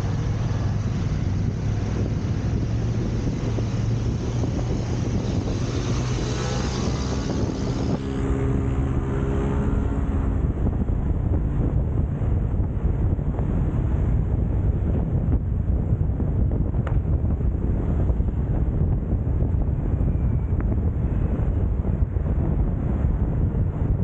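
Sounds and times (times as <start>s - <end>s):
car driving rumble: 0.0s - 24.0s
faint pitched engine hum: 0.0s - 24.0s.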